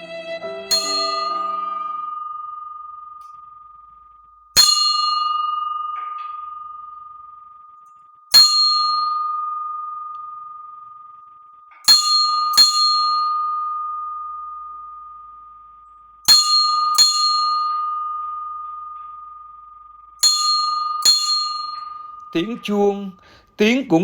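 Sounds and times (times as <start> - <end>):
high-pitched bell ringing: 0.7 - 24.0.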